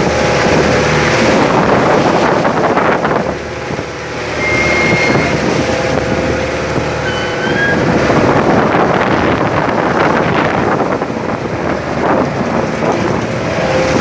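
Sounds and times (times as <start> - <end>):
boat engine drone: 0.0 - 14.0
wind buffeting microphone: 0.0 - 14.0.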